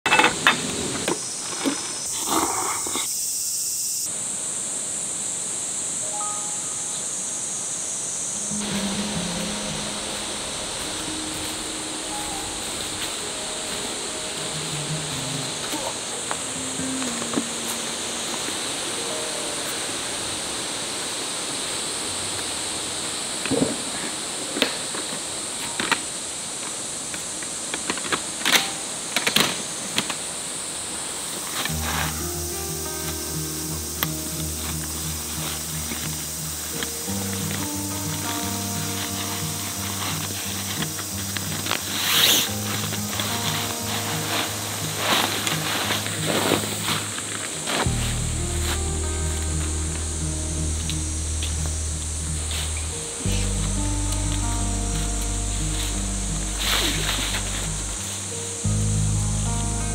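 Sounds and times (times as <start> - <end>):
cicadas droning: 0.1 - 59.9.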